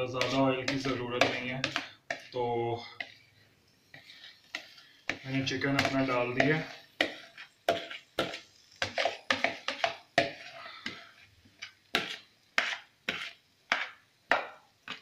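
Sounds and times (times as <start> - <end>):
spoon clicking and scraping pan: 0.1 - 15.0.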